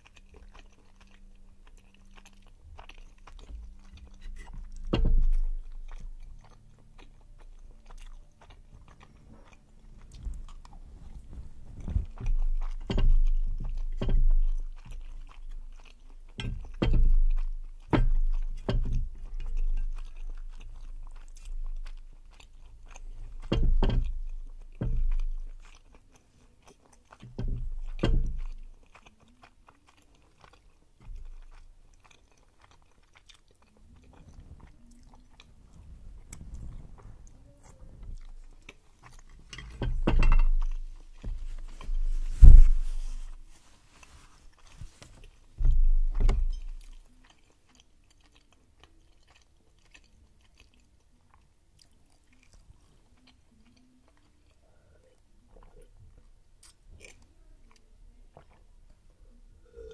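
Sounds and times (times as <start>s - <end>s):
close chewing and mouth sounds: 0.0s - 59.9s.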